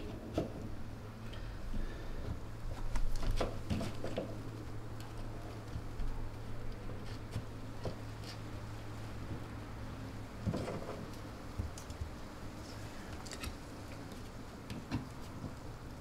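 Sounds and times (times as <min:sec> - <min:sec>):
hands scraping and rustling wire: 0:00.0 - 0:15.8.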